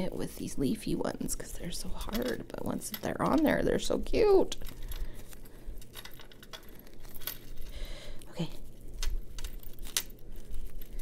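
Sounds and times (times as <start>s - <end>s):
metal charms clinking: 1.8s - 11.0s.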